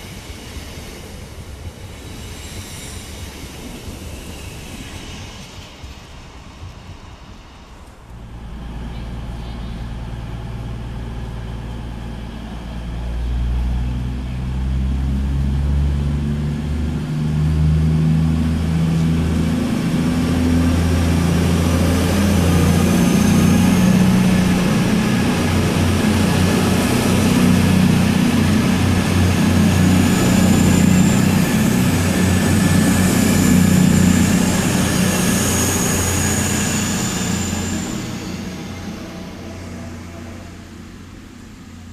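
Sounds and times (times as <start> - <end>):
diesel train engines revving: 7.2 - 41.9.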